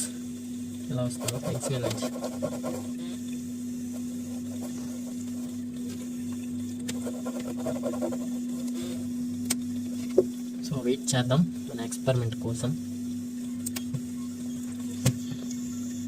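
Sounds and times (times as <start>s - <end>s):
freezer compressor humming: 0.0s - 16.0s.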